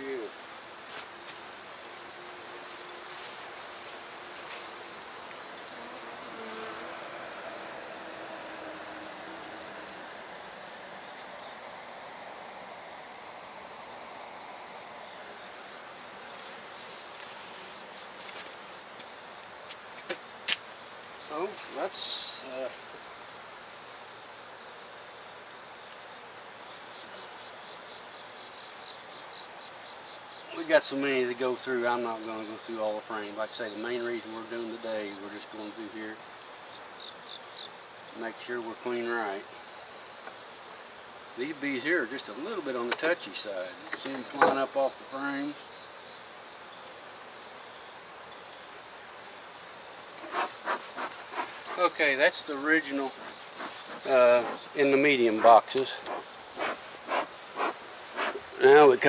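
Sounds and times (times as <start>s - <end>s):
high-pitched insect trill: 0.0s - 59.0s
honey bees buzzing: 0.0s - 59.0s.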